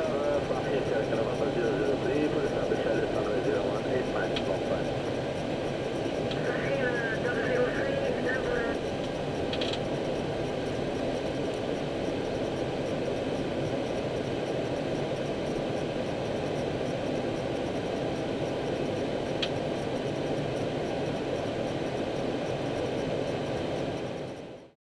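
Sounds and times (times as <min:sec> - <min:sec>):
aircraft engines idling: 0:00.0 - 0:24.0
air-conditioning and fan noise: 0:00.0 - 0:24.7.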